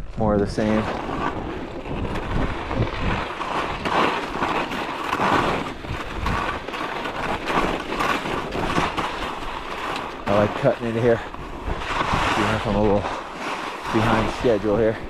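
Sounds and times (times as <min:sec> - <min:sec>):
skis scraping over icy snow: 0:00.0 - 0:15.0
wind on microphone: 0:00.0 - 0:15.0.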